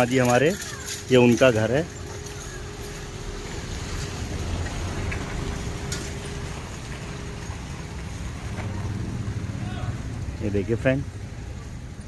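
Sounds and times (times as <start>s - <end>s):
low rumble: 1.9s - 12.0s.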